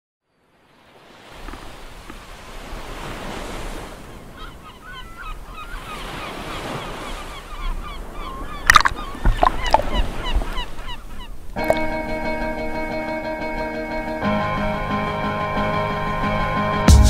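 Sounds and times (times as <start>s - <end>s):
sea water lapping: 0.4s - 16.7s.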